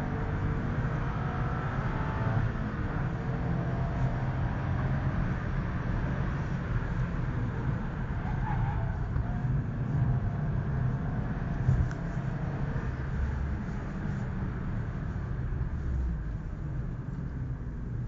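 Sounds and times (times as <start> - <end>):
car engine drone: 0.0 - 18.0
road noise inside car: 0.0 - 18.0.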